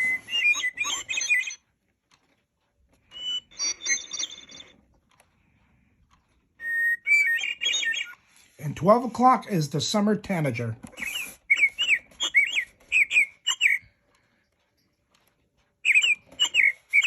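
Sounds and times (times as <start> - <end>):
bird clock playing thrush song: 0.0 - 17.0.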